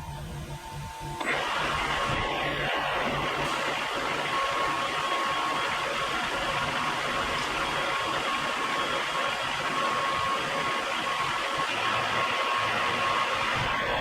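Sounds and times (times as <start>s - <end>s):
thin constant whine: 0.0s - 14.0s
milling machine hiss: 0.5s - 14.0s.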